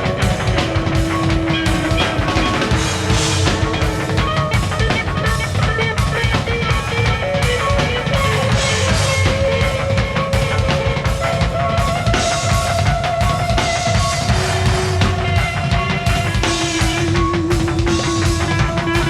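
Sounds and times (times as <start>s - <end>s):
distorted rock guitars: 0.0s - 19.0s
driving drum beat: 0.0s - 19.0s.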